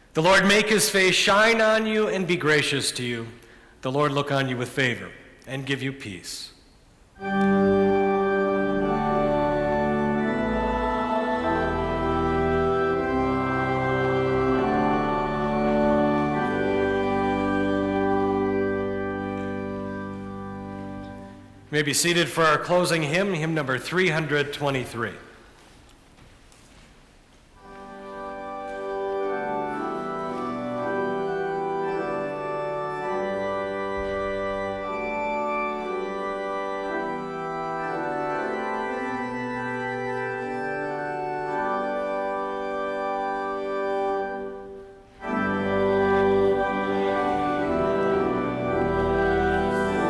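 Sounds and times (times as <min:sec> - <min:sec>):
church organ playing hymn: 0:00.0 - 0:06.5, 0:07.2 - 0:25.8, 0:27.6 - 0:50.0.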